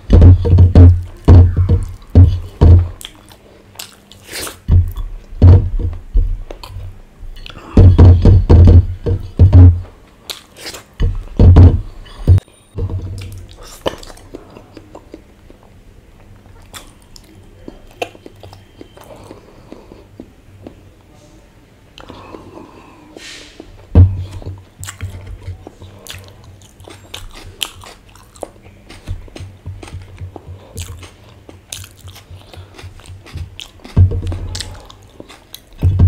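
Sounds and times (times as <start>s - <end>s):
man chewing with wet mouth sounds: 0.0s - 12.4s, 13.0s - 20.9s, 21.9s - 36.0s.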